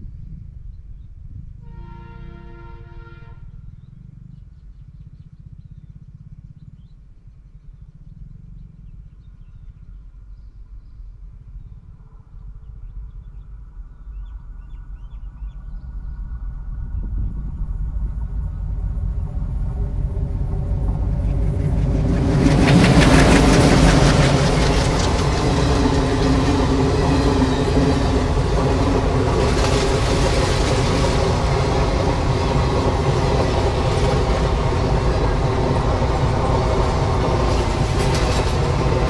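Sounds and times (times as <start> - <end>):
diesel locomotive engine rumble: 0.0 - 39.0
high steady engine tone: 1.6 - 39.0.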